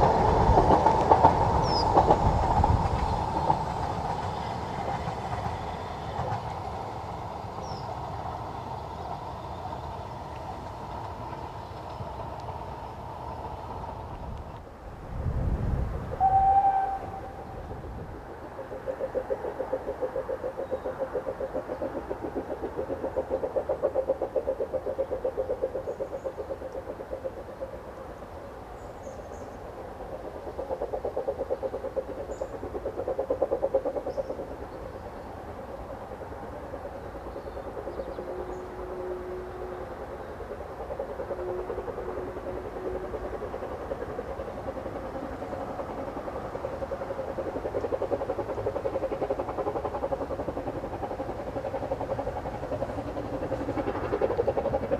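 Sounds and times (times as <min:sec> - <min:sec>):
steam locomotive chuffing: 0:00.0 - 0:14.4, 0:15.0 - 0:54.9.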